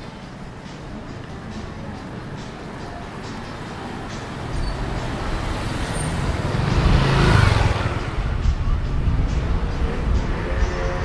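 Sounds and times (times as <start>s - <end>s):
street noise: 0.0s - 11.0s
vehicle engine and tyre rumble: 0.0s - 11.0s.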